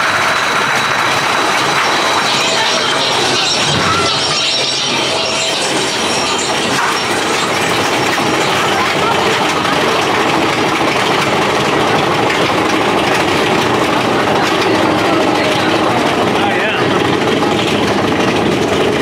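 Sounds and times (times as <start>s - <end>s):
roller coaster lift chain rattling: 0.0s - 19.0s.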